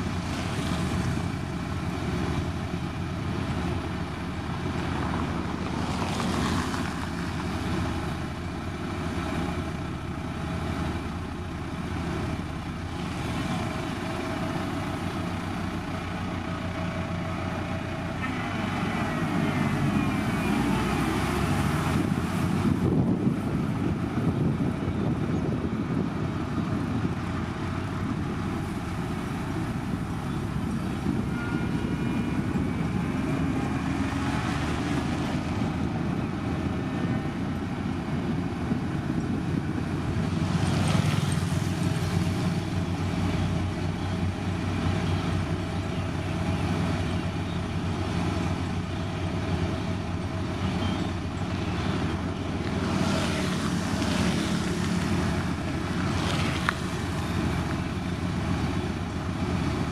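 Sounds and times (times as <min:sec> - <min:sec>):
diesel grader engine running: 0:00.0 - 0:59.9.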